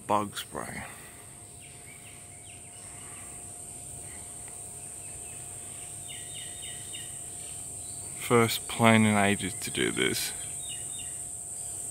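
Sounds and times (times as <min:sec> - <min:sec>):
high-pitched insect drone: 0:00.0 - 0:11.9
bird chirping: 0:00.6 - 0:11.9.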